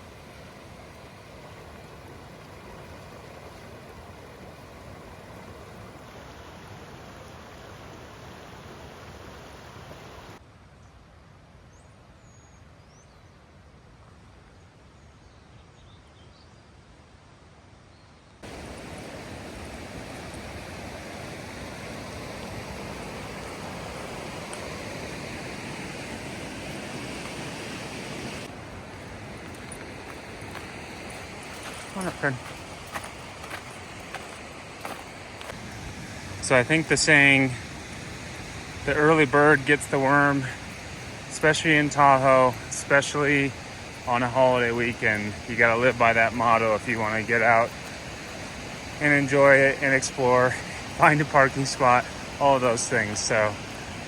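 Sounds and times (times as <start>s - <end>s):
mountain creek rapids rushing: 0.0s - 10.4s, 18.4s - 54.0s.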